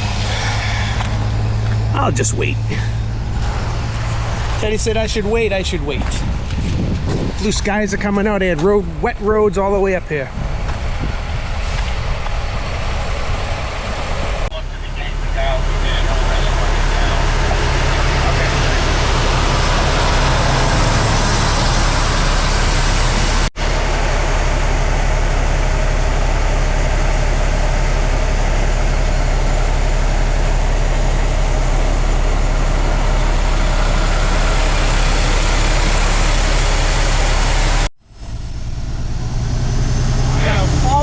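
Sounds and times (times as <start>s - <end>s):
diesel engine idling: 0.0s - 6.4s, 13.0s - 41.0s.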